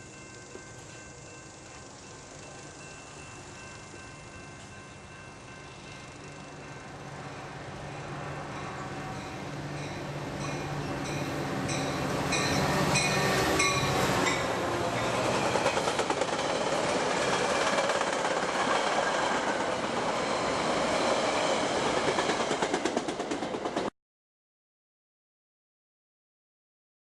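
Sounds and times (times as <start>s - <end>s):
train cars rolling past: 0.0s - 23.9s.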